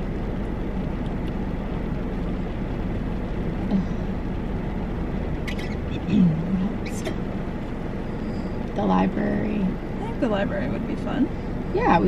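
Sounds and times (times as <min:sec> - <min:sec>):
low rumble and hiss inside car: 0:00.0 - 0:12.0.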